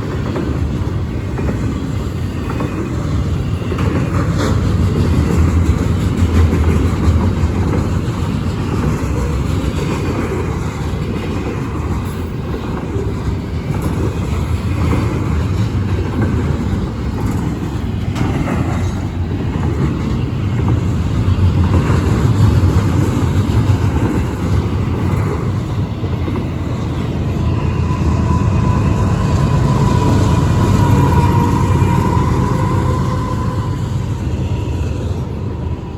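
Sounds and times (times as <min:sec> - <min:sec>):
freight train rumbling past: 0:00.0 - 0:35.9.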